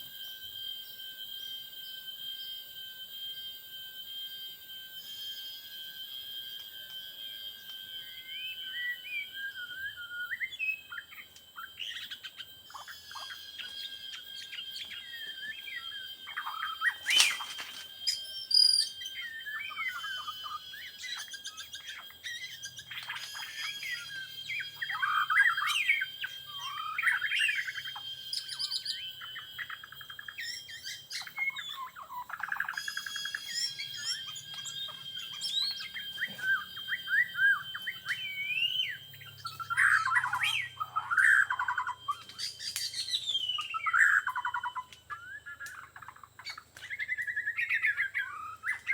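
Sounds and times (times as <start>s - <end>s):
birds singing whistled phrases: 0.0s - 48.9s.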